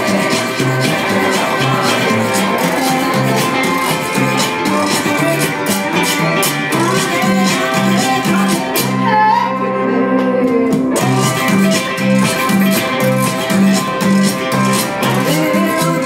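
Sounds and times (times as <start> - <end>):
drums: 0.0 - 9.1, 10.2 - 16.0
electric guitar: 0.0 - 16.0
upright bass: 0.0 - 16.0.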